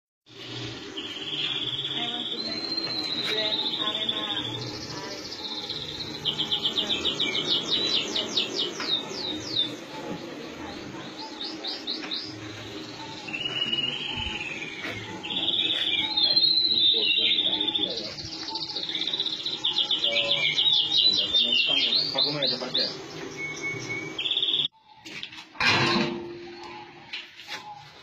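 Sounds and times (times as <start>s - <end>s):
small bird singing: 0.3s - 25.0s.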